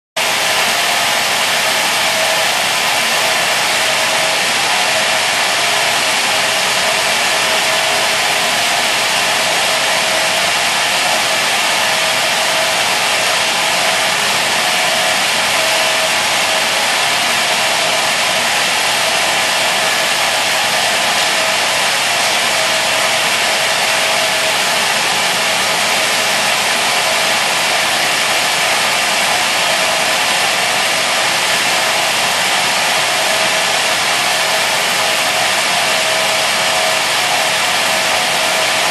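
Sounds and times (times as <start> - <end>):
saw running: 0.2 - 38.9.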